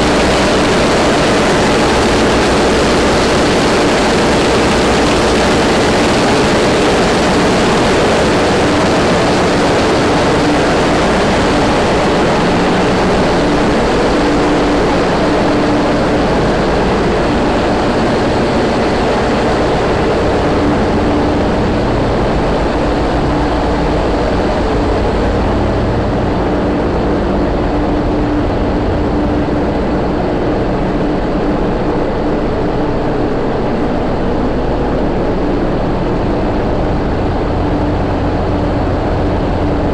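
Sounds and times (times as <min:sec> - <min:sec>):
heavy machinery droning: 0:00.0 - 0:39.9.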